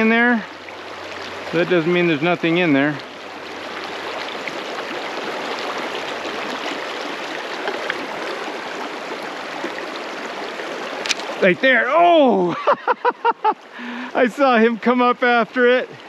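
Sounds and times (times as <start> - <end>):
creek water running into a pool: 0.0 - 16.0.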